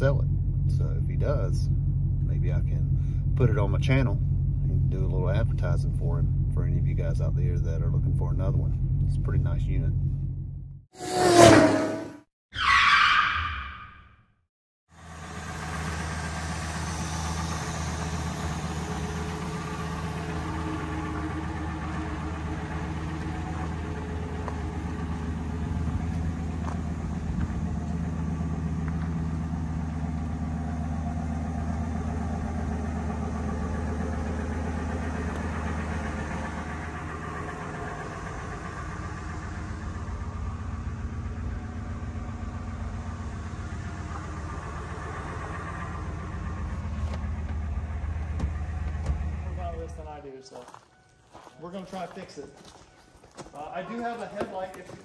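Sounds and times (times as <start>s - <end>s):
vehicle engine humming: 0.0s - 12.3s, 14.9s - 55.0s.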